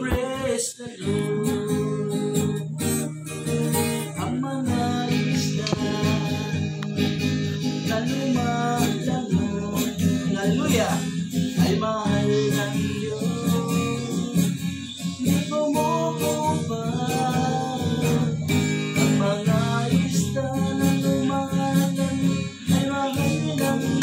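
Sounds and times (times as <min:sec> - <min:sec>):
acoustic guitar strumming: 0:00.0 - 0:24.0
man singing: 0:00.0 - 0:24.0.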